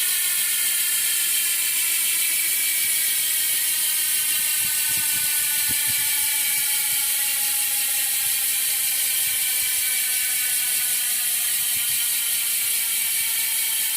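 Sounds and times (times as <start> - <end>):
bicycle hub freewheeling buzz: 0.0 - 13.9.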